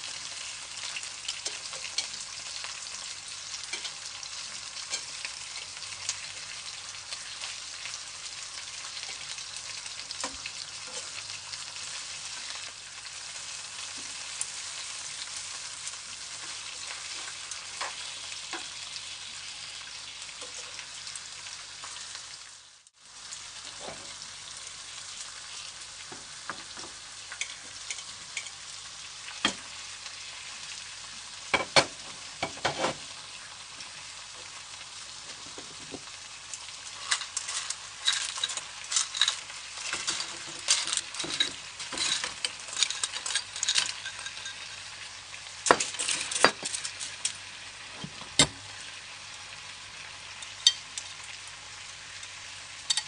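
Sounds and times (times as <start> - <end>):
oil sizzling in a frying pan: 0.0 - 53.0.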